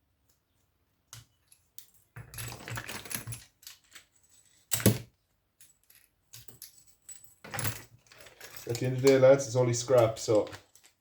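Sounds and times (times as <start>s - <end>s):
metal parts rattling and clicking: 1.5s - 5.0s, 5.6s - 11.0s.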